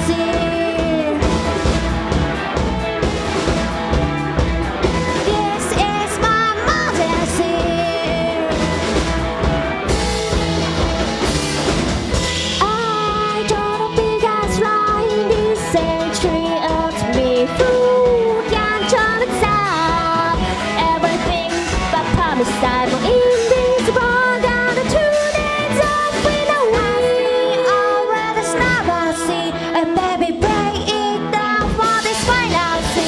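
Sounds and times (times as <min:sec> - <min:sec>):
lead guitar line bending: 0:00.0 - 0:33.0
rock band playing: 0:00.0 - 0:33.0.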